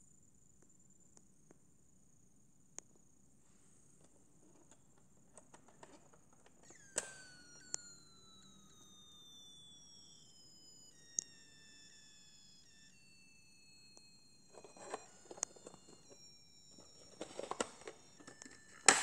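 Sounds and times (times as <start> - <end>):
faint falling whine: 3.4 - 19.0.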